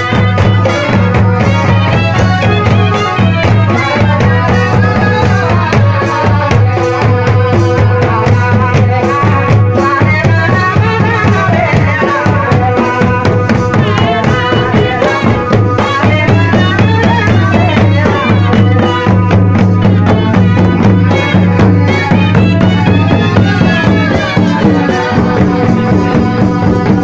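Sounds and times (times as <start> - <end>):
loud steady drumming: 0.0 - 27.0
wind pipe melody: 0.0 - 27.0.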